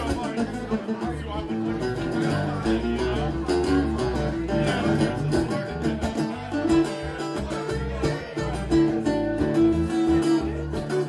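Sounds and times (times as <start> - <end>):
acoustic guitar strumming: 0.0 - 11.0
bass guitar line: 0.0 - 11.0.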